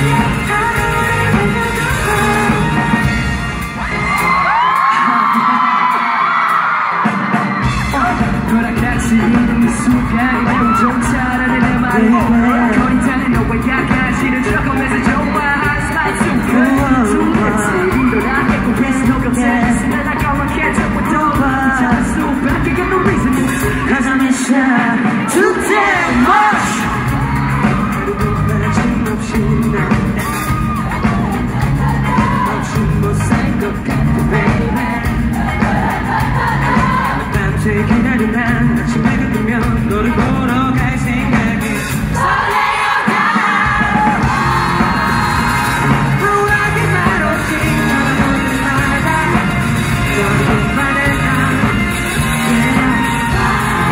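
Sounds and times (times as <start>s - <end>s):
drums: 0.0s - 53.9s
lead vocal: 0.0s - 53.9s.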